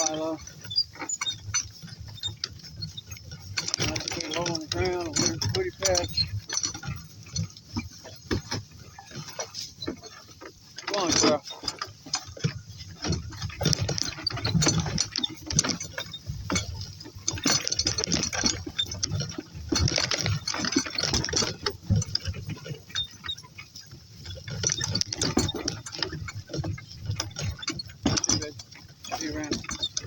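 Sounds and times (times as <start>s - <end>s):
cart rattling over rough ground: 0.0s - 30.0s.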